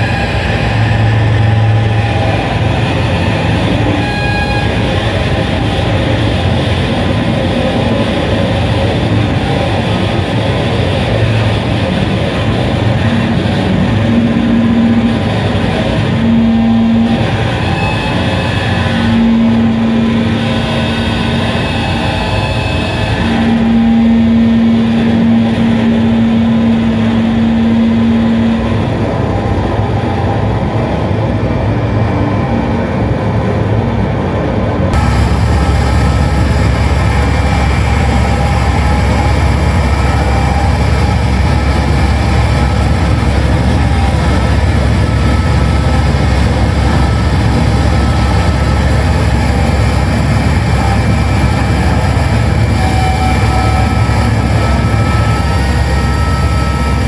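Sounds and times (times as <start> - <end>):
loud distorted noise: 0.0 - 57.0
steady low tone: 0.0 - 57.0.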